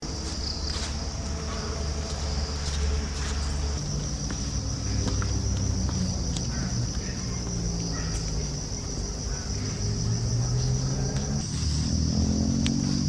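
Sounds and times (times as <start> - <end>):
insects droning: 0.1 - 13.0.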